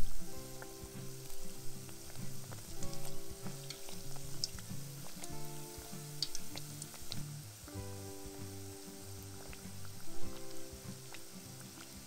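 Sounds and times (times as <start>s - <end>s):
background music with held notes: 0.0s - 12.0s
hot oil sizzling and crackling: 0.0s - 12.0s.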